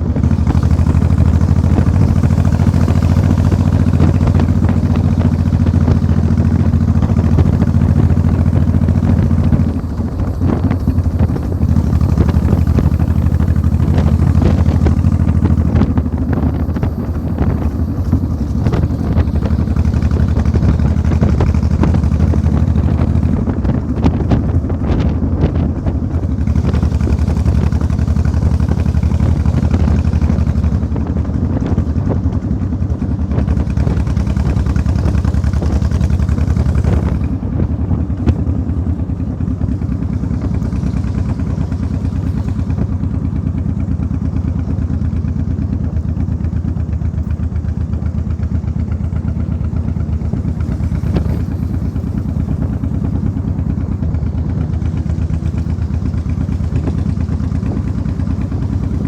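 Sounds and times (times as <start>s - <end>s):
engine running with fast pulse: 0.0s - 59.0s.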